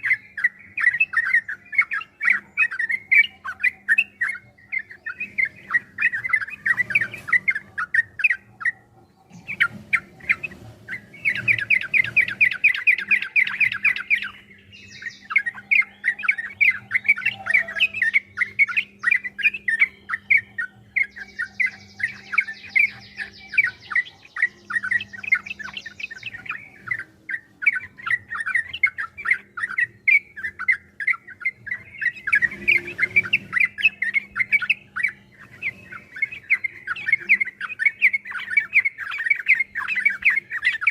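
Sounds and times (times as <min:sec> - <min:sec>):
bulbuls chattering song: 0:00.0 - 0:40.9.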